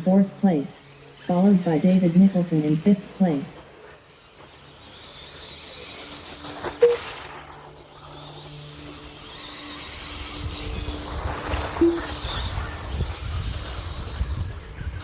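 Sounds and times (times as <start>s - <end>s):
rc truck motors whining: 0.0s - 15.0s.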